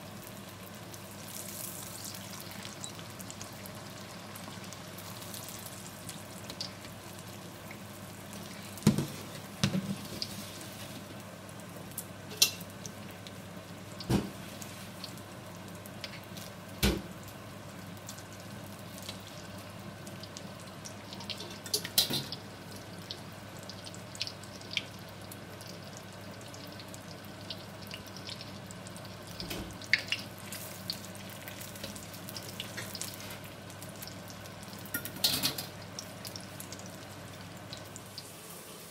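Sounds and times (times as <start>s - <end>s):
oil sizzling in wok: 0.0s - 38.9s.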